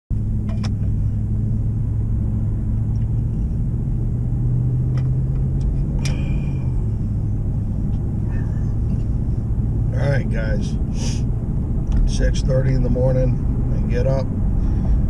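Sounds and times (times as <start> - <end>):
road noise: 0.1 - 15.0
truck engine drone inside cab: 0.1 - 15.0.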